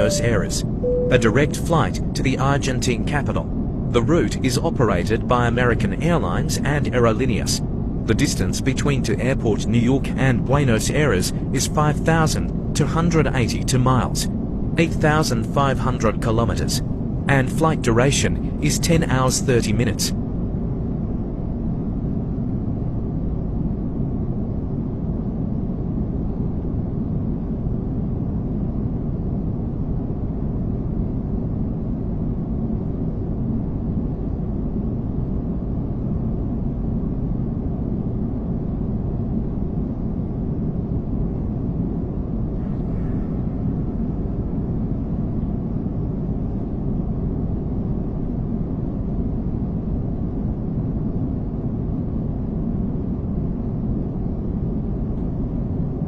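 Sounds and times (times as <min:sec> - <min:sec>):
jet airliner rumble: 0:00.0 - 0:56.0.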